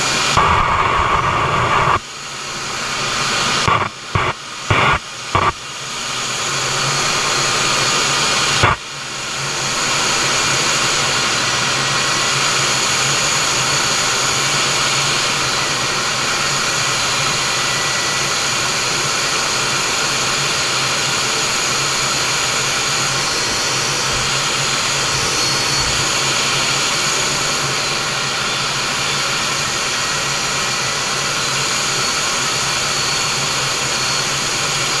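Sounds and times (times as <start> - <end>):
jet engines and rushing air: 0.0 - 35.0.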